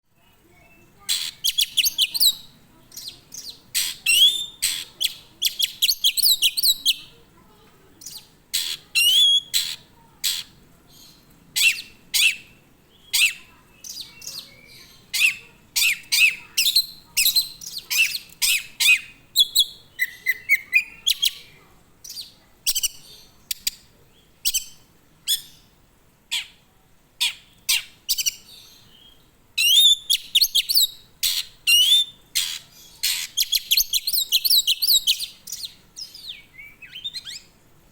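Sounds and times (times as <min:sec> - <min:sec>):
songbird chirping and trilling: 0:00.2 - 0:37.7.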